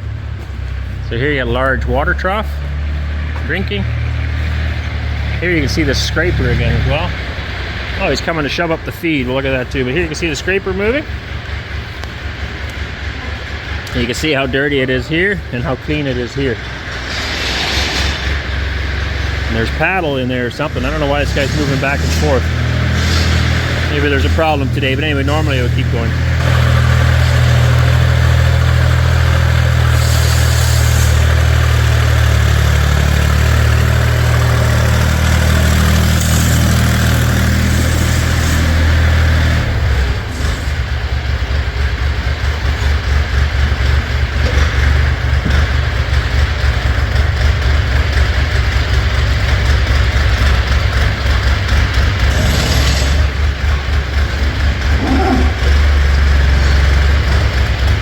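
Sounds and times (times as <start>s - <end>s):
farm vehicle engine running: 0.0s - 17.5s, 18.4s - 58.0s.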